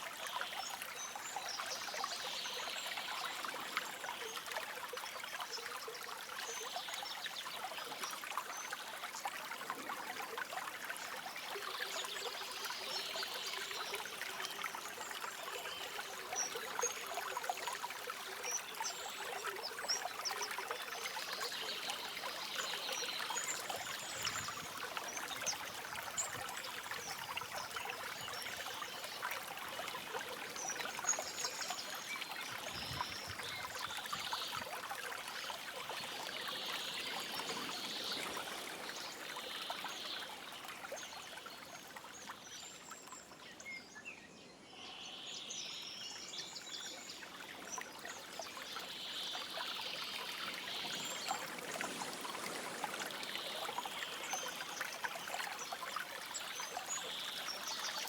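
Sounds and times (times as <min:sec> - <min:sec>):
stream gurgling over stones: 0:00.0 - 0:43.6, 0:45.5 - 0:58.0.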